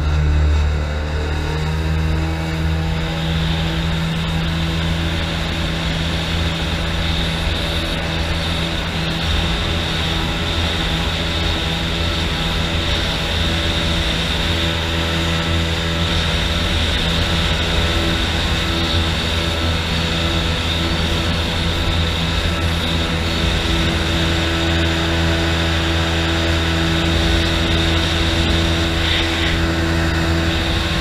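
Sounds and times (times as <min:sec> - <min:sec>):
jet boat engine drone: 0:00.0 - 0:31.0.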